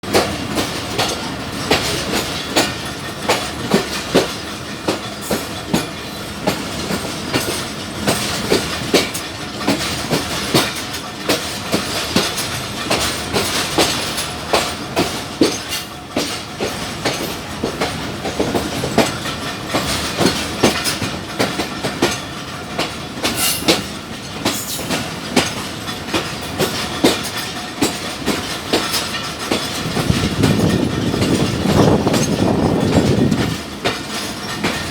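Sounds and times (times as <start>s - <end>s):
train wheels clattering over rail joints: 0.0s - 34.9s.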